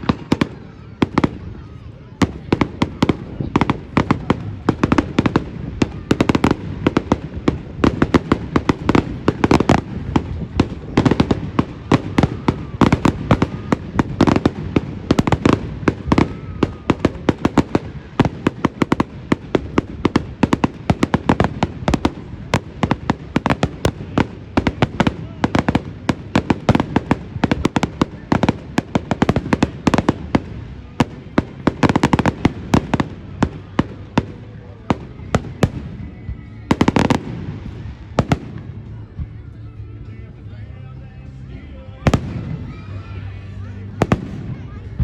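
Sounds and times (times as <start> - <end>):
fireworks bangs and crackles: 0.0 - 40.5, 41.2 - 45.0.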